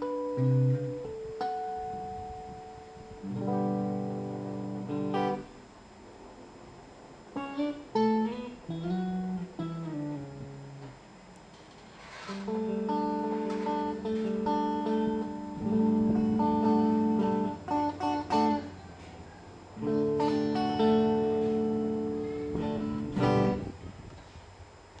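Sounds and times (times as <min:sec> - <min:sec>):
clean electric guitar: 0:00.0 - 0:05.8, 0:07.2 - 0:25.0.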